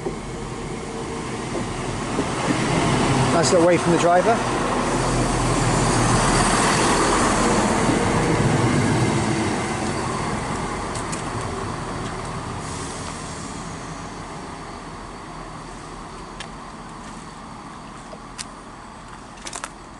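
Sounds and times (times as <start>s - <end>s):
diesel train passing: 0.0s - 19.9s.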